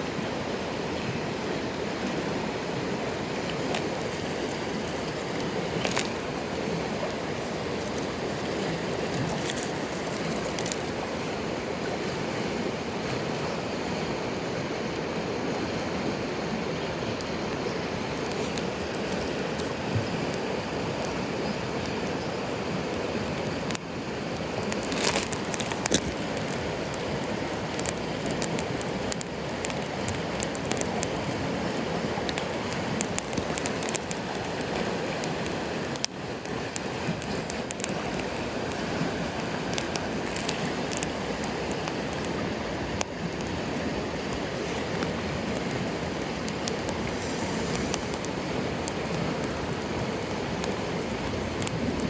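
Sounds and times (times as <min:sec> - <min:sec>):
stream rushing: 0:00.0 - 0:52.0
campfire crackling and popping: 0:03.2 - 0:11.7, 0:16.8 - 0:52.0.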